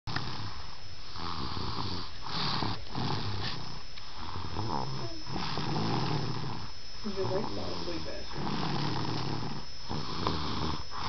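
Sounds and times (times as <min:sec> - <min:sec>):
snoring: 0:00.1 - 0:11.0.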